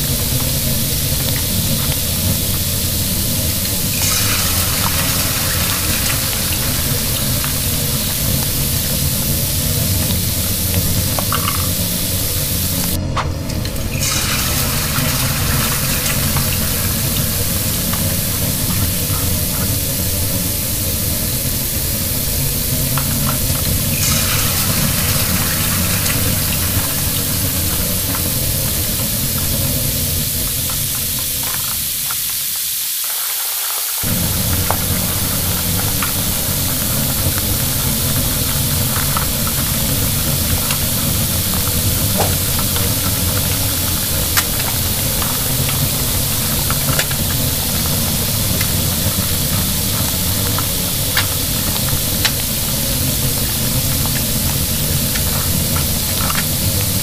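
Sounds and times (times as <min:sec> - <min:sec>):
toy grill sizzle effect: 0:00.0 - 0:57.0.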